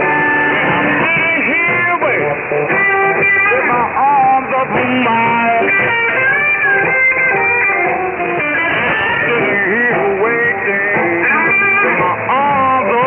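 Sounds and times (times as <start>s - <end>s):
guitar music over shortwave radio: 0.0s - 13.0s.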